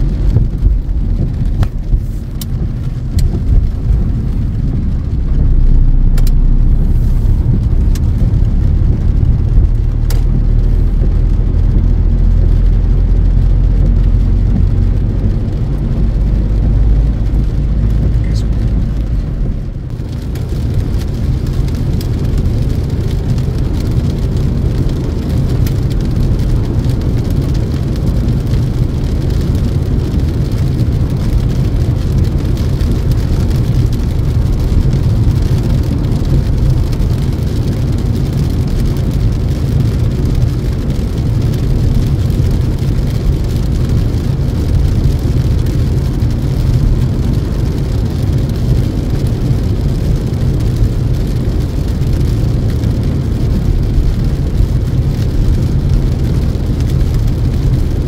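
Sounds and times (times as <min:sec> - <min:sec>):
rain hitting windscreen: 0:00.0 - 0:58.0
tyres on wet road: 0:00.0 - 0:58.0.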